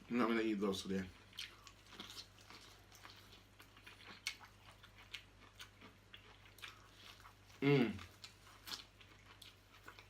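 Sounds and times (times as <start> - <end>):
chewing and mouth sounds: 1.0 - 10.0.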